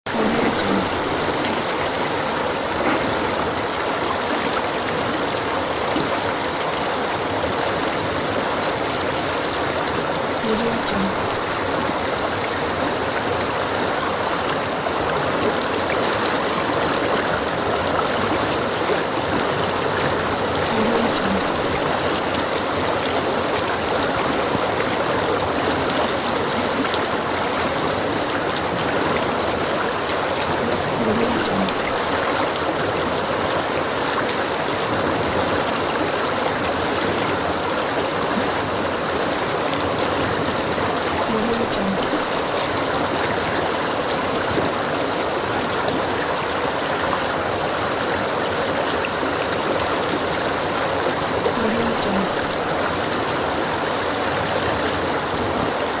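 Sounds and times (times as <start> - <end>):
river water rushing and babbling: 0.1 - 56.0
small water gurgle: 0.1 - 56.0.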